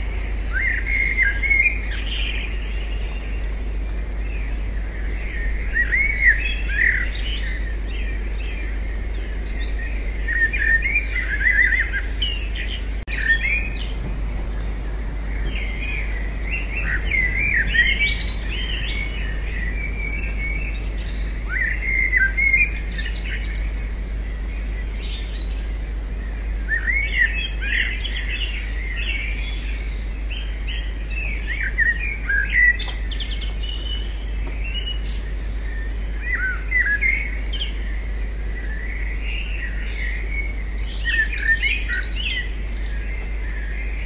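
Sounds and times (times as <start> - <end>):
songbirds chirping and twittering: 0.0 - 44.0
steady low hum: 0.0 - 44.0.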